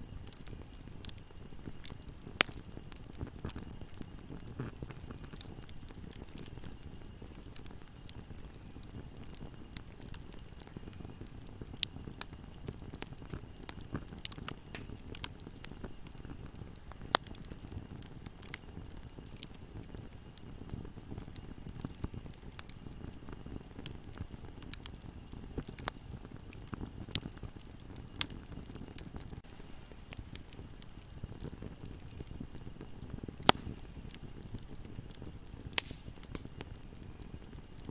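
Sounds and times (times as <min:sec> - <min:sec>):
bonfire crackling: 0:00.0 - 0:37.9
rush of burning wood: 0:00.0 - 0:37.9.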